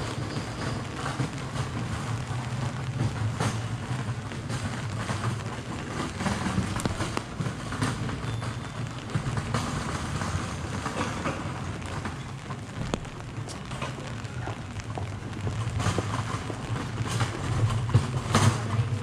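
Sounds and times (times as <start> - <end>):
rain on street: 0.0 - 19.0
sharp drips and ticks: 0.0 - 19.0.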